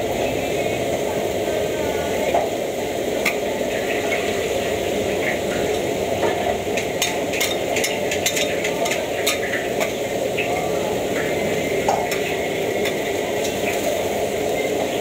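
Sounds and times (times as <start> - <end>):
oil sizzling in a wok: 0.0 - 15.0.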